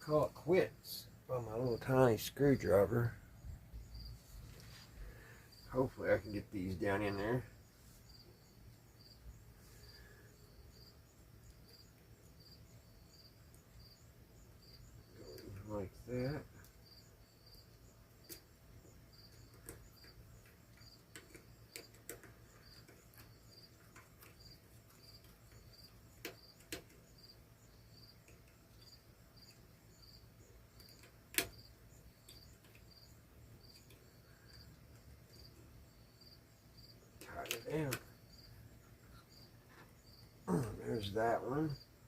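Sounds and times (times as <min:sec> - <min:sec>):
cricket chirping: 0:00.1 - 0:42.0.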